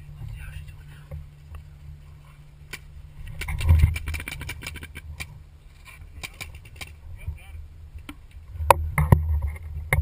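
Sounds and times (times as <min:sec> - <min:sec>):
wind rumble: 0:00.0 - 0:10.0.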